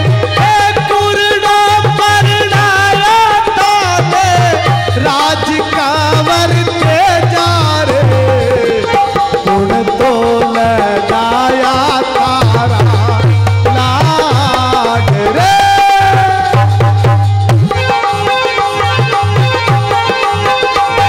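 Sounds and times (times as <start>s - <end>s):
hand drum rhythm: 0.0s - 21.0s
harmonium sustained notes: 0.0s - 21.0s
man singing: 0.0s - 21.0s.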